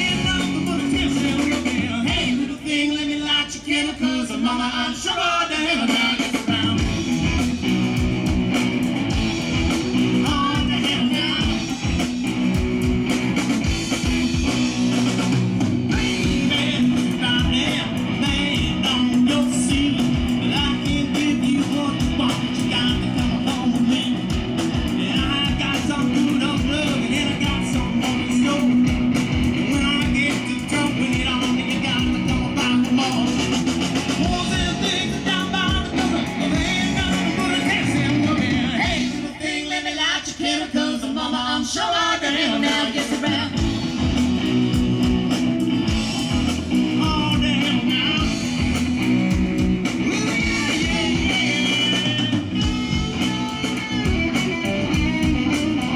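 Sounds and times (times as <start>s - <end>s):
steady drum beat: 0.0s - 2.6s, 5.7s - 39.6s, 42.4s - 55.9s
man singing lead vocal: 0.0s - 7.5s, 9.9s - 12.2s, 15.9s - 44.2s, 46.6s - 49.1s, 49.8s - 54.1s
bass guitar: 0.0s - 55.9s
electric guitars: 0.0s - 55.9s.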